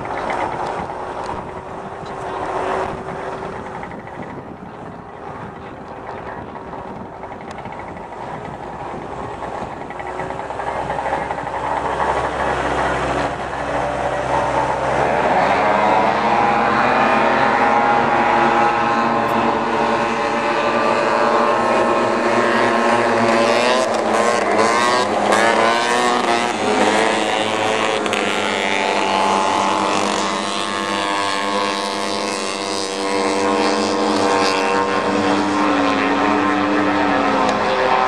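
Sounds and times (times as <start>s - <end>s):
snowmobile engines racing: 0.0s - 38.0s.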